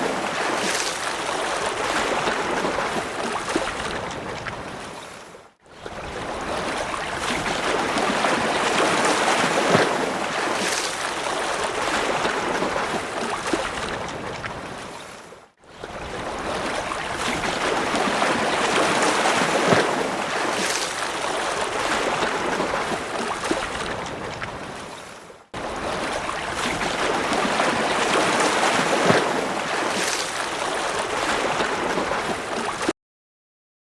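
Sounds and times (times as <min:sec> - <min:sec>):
rough sea waves: 0:00.0 - 0:32.9.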